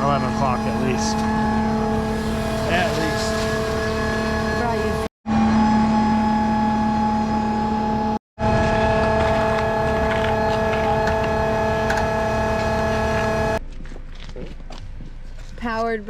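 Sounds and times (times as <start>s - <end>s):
engine humming: 0.0s - 13.8s.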